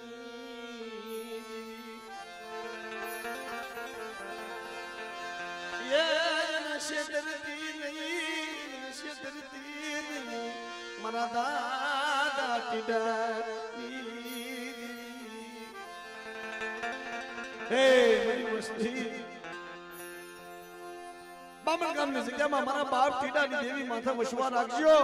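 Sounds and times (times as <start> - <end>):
ornamented folk melody: 0.0 - 25.0.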